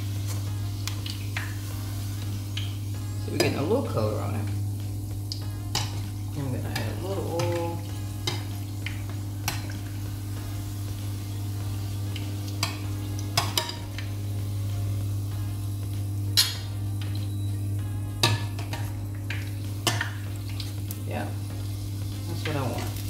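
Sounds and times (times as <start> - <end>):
dough sizzling in hot oil: 0.0 - 23.0
steady low hum: 0.0 - 23.0.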